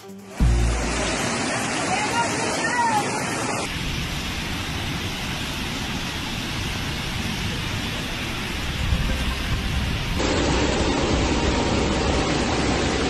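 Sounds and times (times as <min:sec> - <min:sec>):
floodwater rushing: 0:00.2 - 0:13.0.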